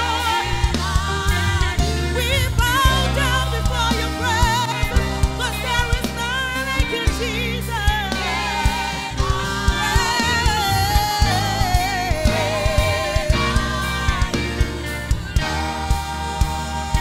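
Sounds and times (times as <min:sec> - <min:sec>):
bass guitar: 0:00.0 - 0:17.0
drum kit beat: 0:00.0 - 0:17.0
woman singing lead vocal: 0:00.0 - 0:17.0
women's choir singing: 0:00.0 - 0:17.0.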